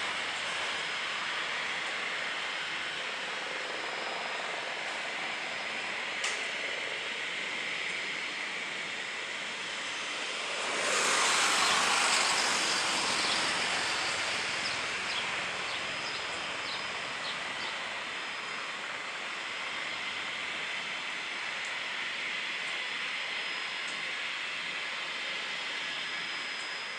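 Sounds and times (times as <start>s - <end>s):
helicopter engine and rotors whining: 0.0s - 26.9s.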